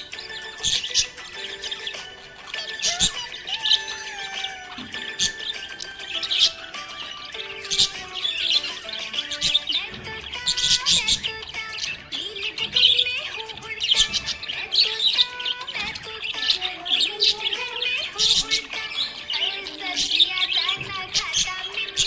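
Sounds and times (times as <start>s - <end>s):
budgie chirping and warbling: 0.0s - 22.0s.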